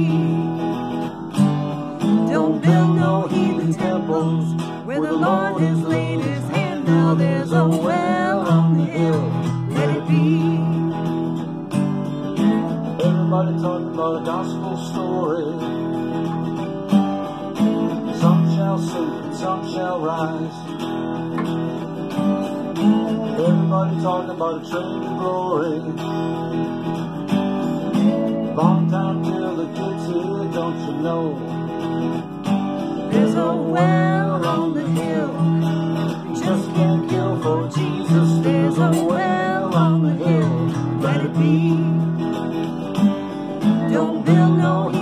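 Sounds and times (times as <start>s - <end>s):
slide guitar bending notes: 0.0s - 45.0s
strummed rhythm guitar: 0.0s - 45.0s.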